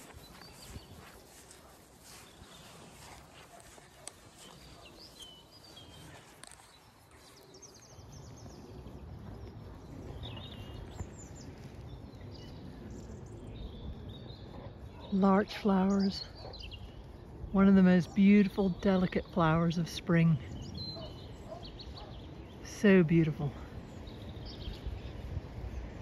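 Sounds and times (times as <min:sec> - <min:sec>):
low wind rumble: 0:00.0 - 0:26.0
wild birds chirping: 0:00.0 - 0:26.0.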